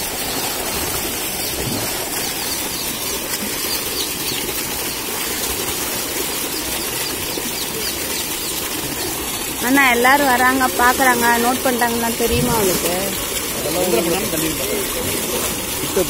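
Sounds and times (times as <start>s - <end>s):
water splashing and churning: 0.0s - 16.0s.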